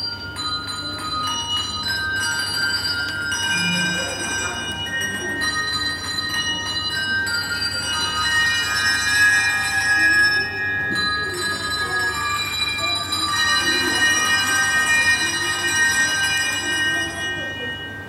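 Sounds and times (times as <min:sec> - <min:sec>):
handbell chords ringing: 0:00.0 - 0:18.0.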